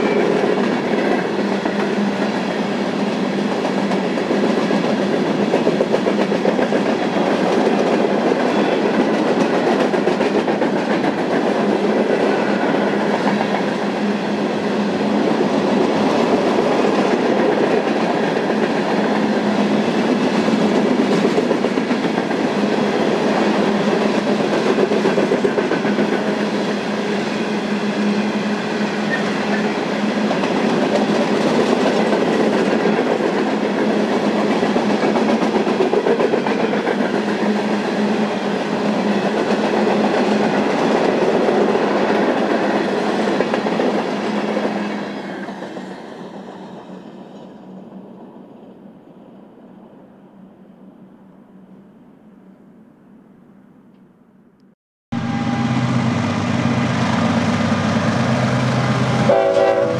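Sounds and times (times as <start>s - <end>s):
train wheels on rails: 0.0s - 49.1s, 55.2s - 59.9s.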